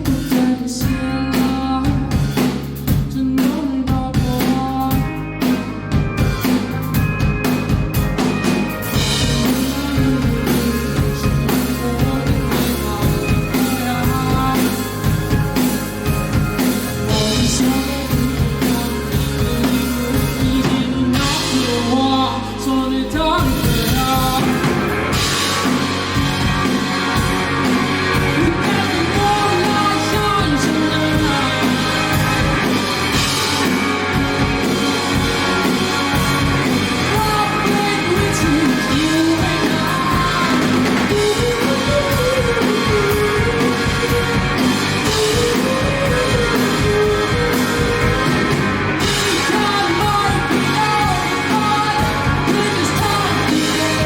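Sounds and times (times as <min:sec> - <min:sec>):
person singing: 0:00.0 - 0:05.6, 0:08.8 - 0:54.0
rock band playing live: 0:00.0 - 0:54.0.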